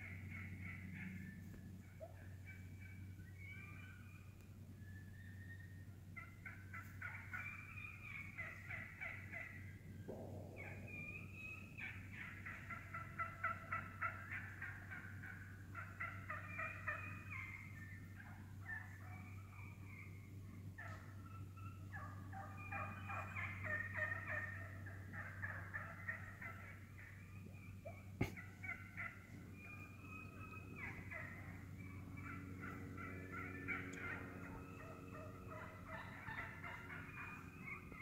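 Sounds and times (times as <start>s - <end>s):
turkeys clucking and purring: 0.0s - 38.0s.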